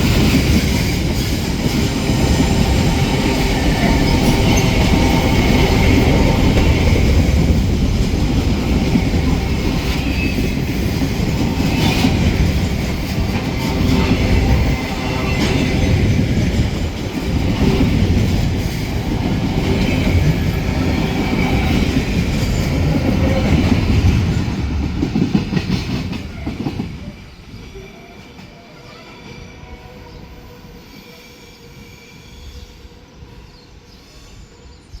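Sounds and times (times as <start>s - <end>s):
train wagons clacking on rails: 0.0s - 29.5s.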